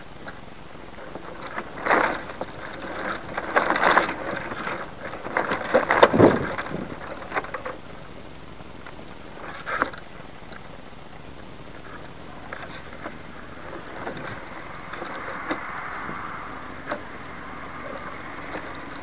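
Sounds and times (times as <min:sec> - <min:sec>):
rigging clicks and rattles: 0:00.0 - 0:19.0
wind buffeting microphone: 0:00.0 - 0:19.0.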